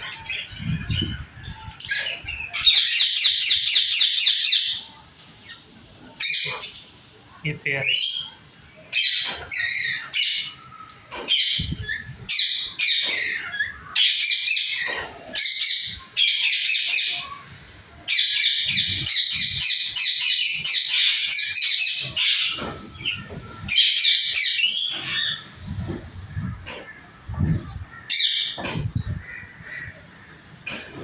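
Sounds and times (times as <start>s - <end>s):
parrots chirping and chattering: 0.0s - 31.0s.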